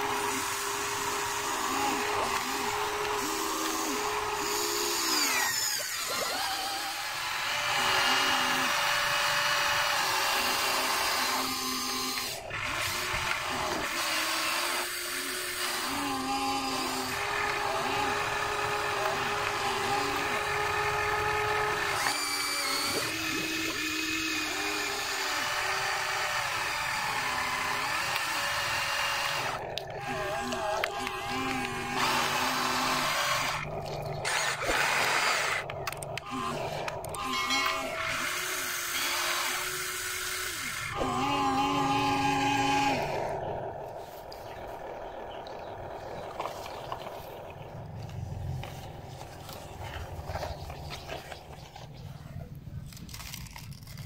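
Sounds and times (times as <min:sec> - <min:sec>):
small electric motors whining: 0:00.0 - 0:54.0.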